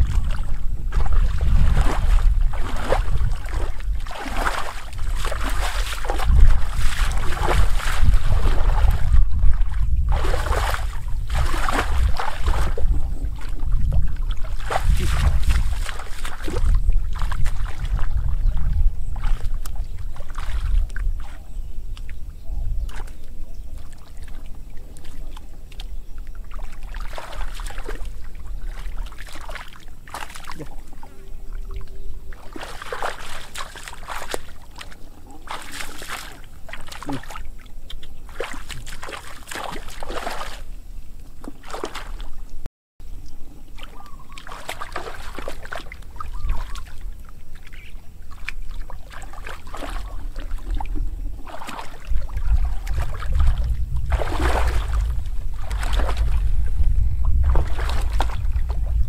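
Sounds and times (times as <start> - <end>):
muddy water sloshing and splashing: 0.0 - 42.7, 43.3 - 59.0
wind rumble on microphone: 0.0 - 59.0.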